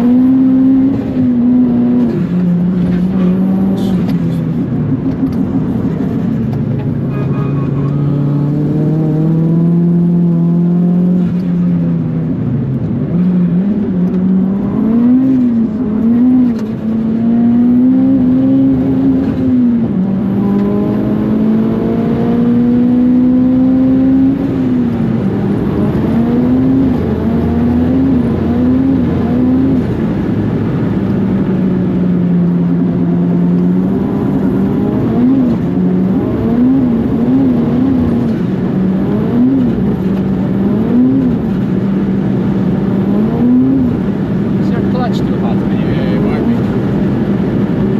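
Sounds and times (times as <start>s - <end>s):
turbocharged engine accelerating hard: 0.0s - 47.9s.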